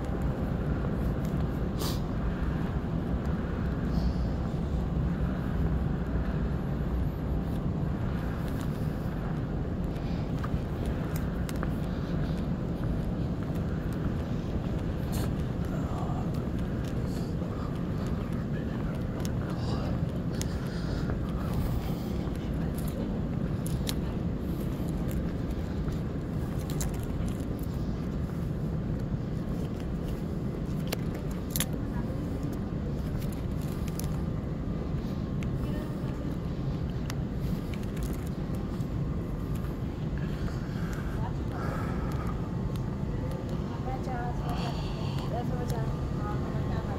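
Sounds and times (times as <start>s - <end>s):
ventilation rumbling hum: 0.0s - 46.9s.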